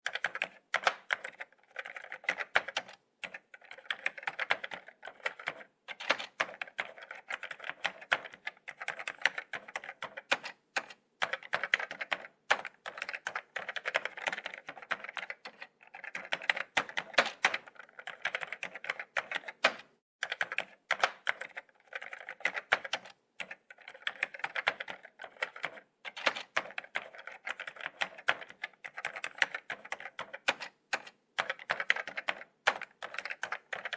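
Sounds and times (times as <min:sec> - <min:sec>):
laptop keyboard typing: 0:00.0 - 0:33.9.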